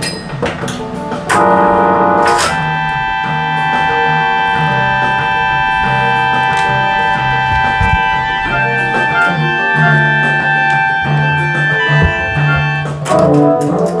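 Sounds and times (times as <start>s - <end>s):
keyboard music with organ chords: 0.0s - 14.0s.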